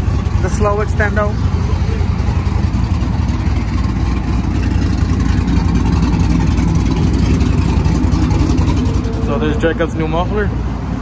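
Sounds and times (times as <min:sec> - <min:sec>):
truck engine exhaust rumble: 0:00.0 - 0:11.0.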